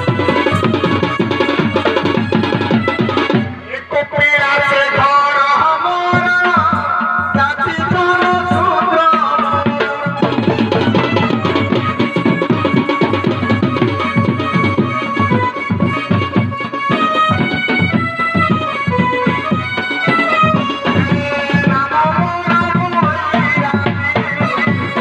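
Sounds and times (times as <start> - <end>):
barrel drum beating fast: 0.0 - 5.1, 6.0 - 25.0
reed instrument melody: 0.0 - 25.0.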